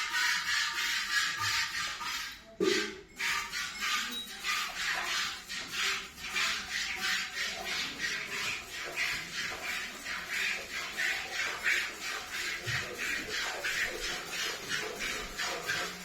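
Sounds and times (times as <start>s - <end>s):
milk squirting into a pail: 0.0s - 16.0s.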